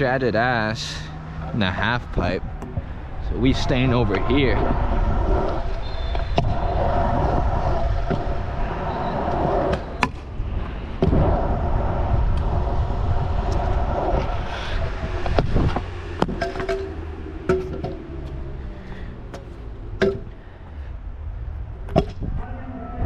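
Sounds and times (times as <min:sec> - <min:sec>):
scooter wheels rolling on concrete: 0:00.0 - 0:21.7.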